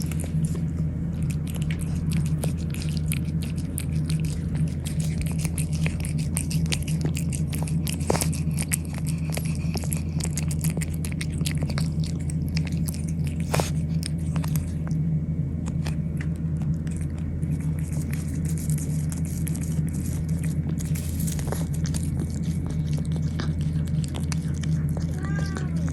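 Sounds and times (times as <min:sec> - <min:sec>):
cats chewing: 0:00.0 - 0:25.9
steady low hum: 0:00.0 - 0:25.9.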